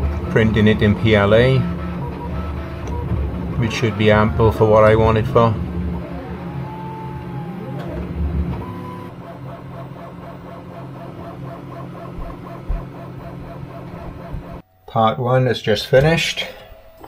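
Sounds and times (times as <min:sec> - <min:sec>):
motor whine: 0:00.0 - 0:14.6
printer fans and motors humming: 0:00.0 - 0:14.6, 0:15.8 - 0:17.0.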